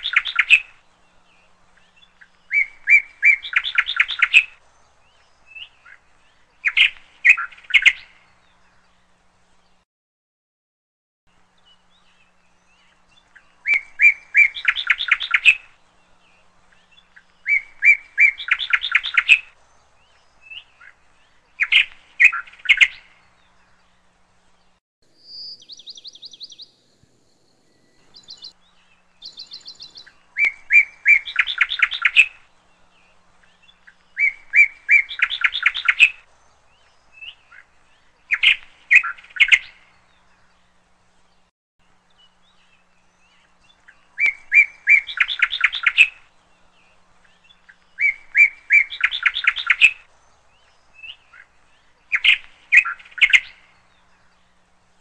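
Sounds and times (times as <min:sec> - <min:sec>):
bird song with trill: 0:00.0 - 0:09.8, 0:11.3 - 0:55.0.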